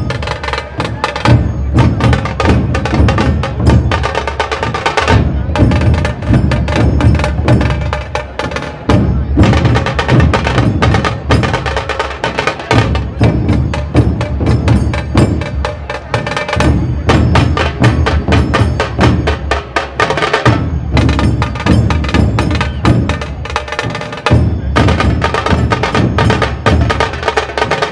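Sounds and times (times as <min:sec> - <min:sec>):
dhol drums beating: 0:00.0 - 0:27.9.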